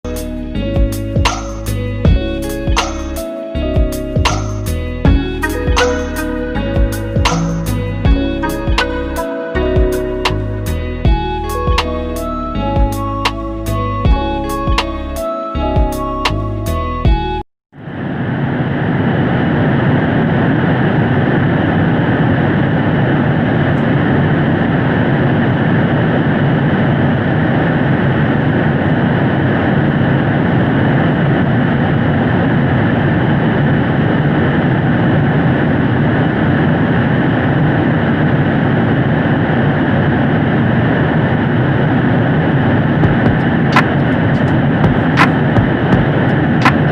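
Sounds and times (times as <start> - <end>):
steady noisy drone: 0.0 - 17.0, 17.8 - 46.9.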